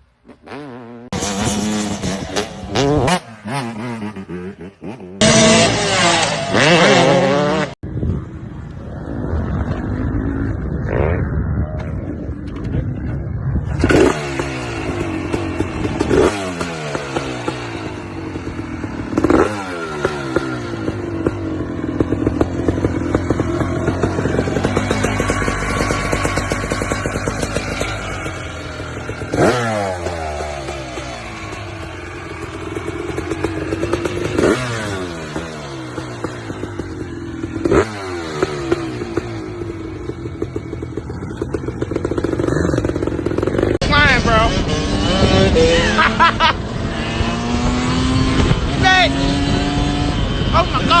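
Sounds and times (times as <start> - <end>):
dirt bike engine revving: 0.2 - 7.8, 9.0 - 51.0.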